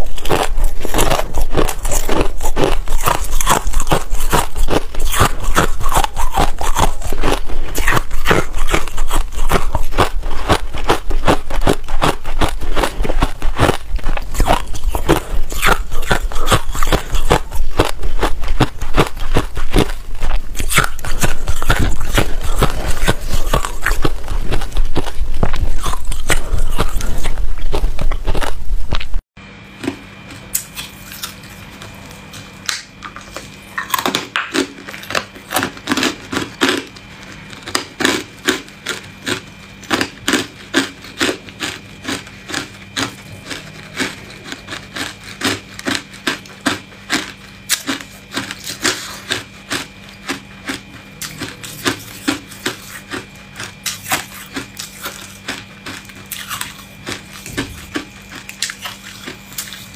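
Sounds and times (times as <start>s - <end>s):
ice being chewed: 0.0s - 29.2s, 29.8s - 59.9s
faint steady hum: 0.0s - 59.9s.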